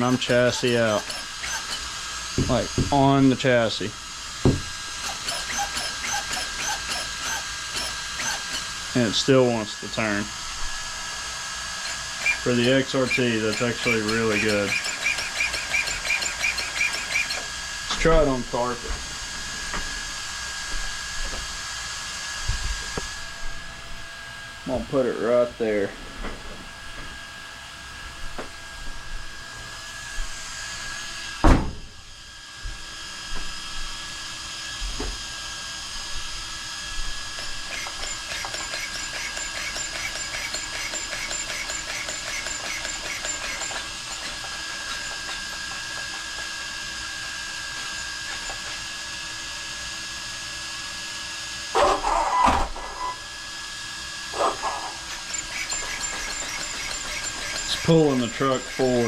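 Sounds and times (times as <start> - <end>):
electric motor whine: 0.0 - 24.3, 32.0 - 59.0.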